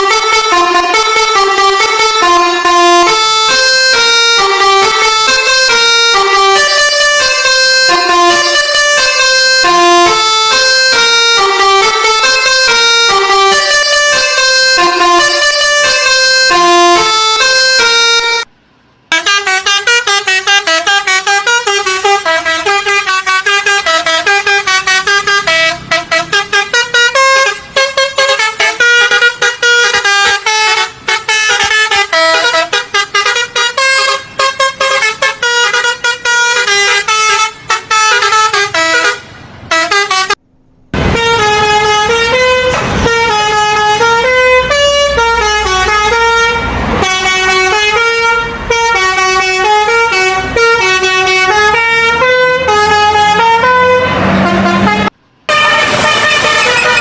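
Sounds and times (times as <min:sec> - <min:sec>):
bus horn playing a tune: 0:00.0 - 0:40.4, 0:41.0 - 0:57.0.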